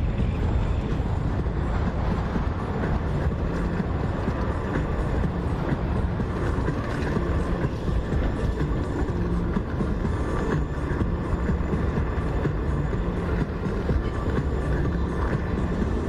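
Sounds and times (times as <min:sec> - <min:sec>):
vehicle rumble in motion: 0:00.0 - 0:16.0.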